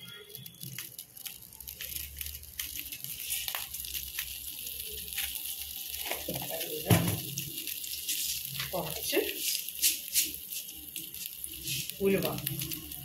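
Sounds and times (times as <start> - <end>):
hot oil sizzling: 0.0 - 13.0
mustard seeds popping: 0.0 - 13.0.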